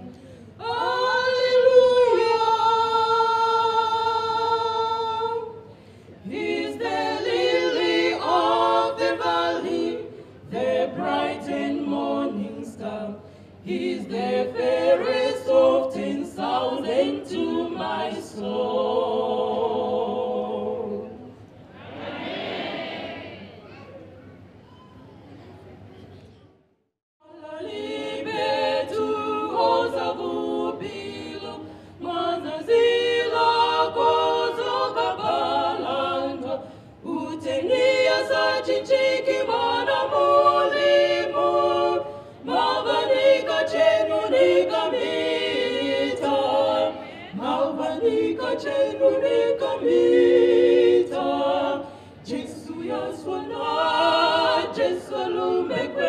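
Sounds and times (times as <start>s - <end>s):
women singing in harmony: 0.0s - 21.3s, 27.2s - 56.0s.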